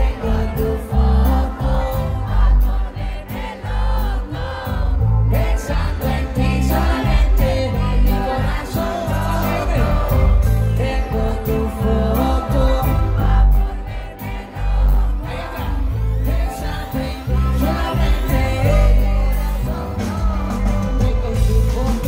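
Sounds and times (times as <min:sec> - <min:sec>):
crowd singing along: 0:00.0 - 0:22.0
man singing amplified: 0:00.0 - 0:22.0
pulsing bass beat: 0:00.0 - 0:22.0.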